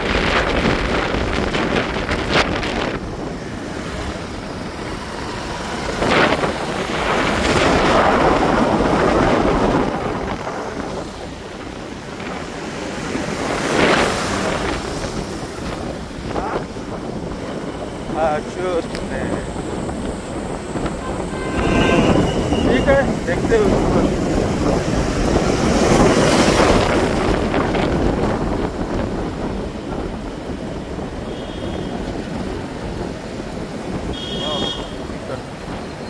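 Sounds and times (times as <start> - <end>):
low road rumble: 0.0 - 36.0
wind rushing over microphone: 0.0 - 36.0.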